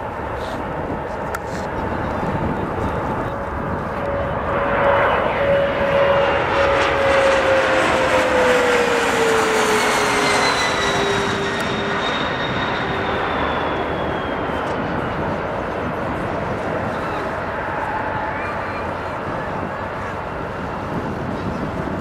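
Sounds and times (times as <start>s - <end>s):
jet engines whining overhead: 0.0s - 22.0s.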